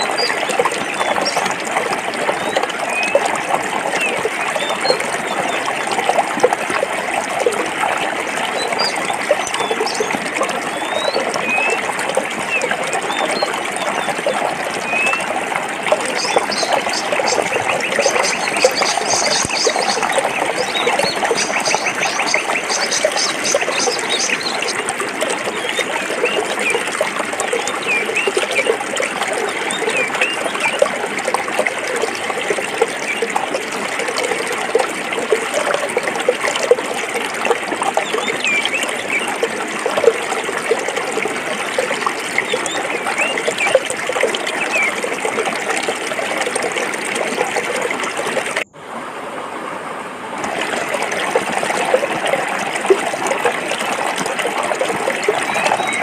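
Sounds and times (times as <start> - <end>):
stream splashing over rocks: 0.0 - 56.0.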